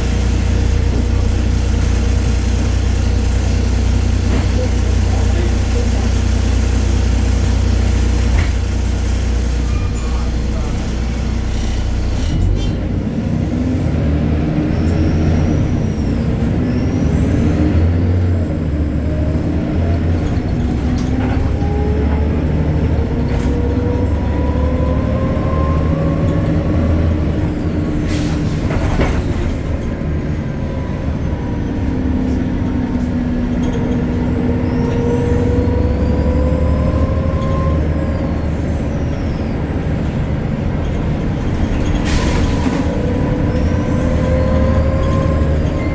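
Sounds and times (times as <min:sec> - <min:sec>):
bus engine rumble and whine: 0:00.0 - 0:45.9.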